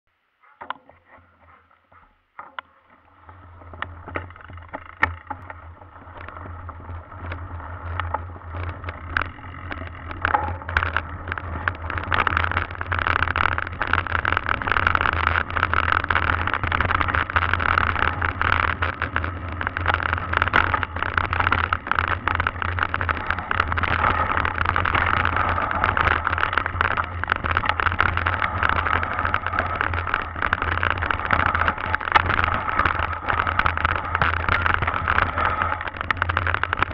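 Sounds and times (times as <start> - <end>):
bike tyres on dirt trail: 0.4 - 36.9
bike rattling clicks: 3.7 - 36.9.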